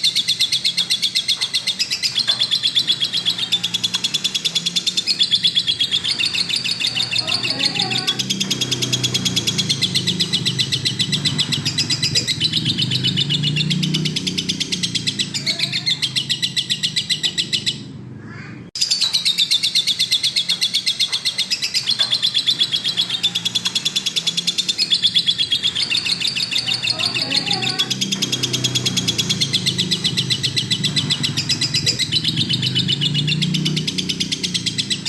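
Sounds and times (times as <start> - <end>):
lovebird singing high chirps: 0.0 - 17.9, 18.8 - 35.0.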